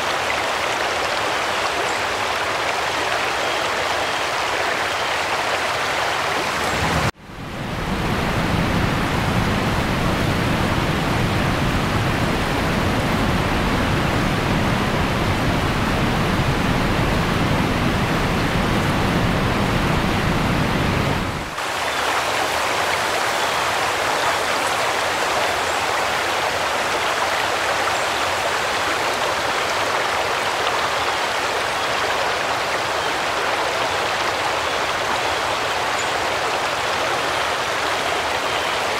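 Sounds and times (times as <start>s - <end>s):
flood water rushing: 0.0s - 38.9s.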